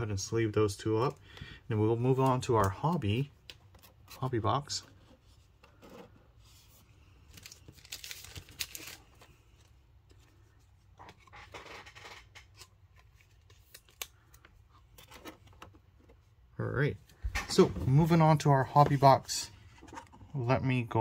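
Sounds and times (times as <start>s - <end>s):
plastic sleeves rustling: 0.7s - 21.0s.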